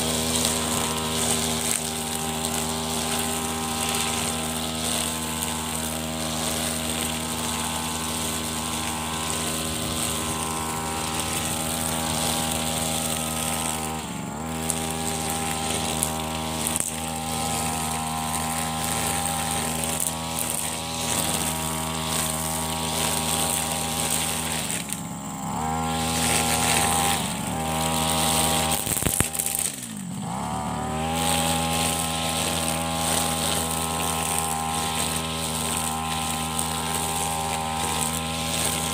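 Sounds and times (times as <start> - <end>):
brush cutter running: 0.0 - 38.9.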